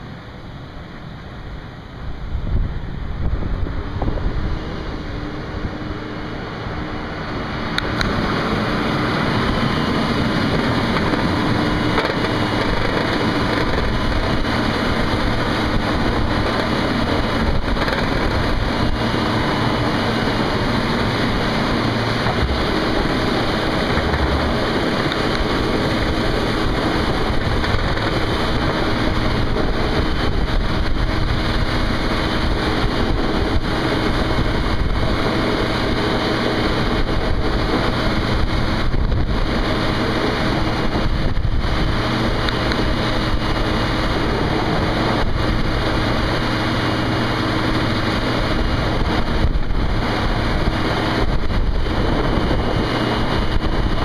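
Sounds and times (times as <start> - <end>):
truck engine hum: 0.0 - 54.0
slush rushing: 5.7 - 54.0.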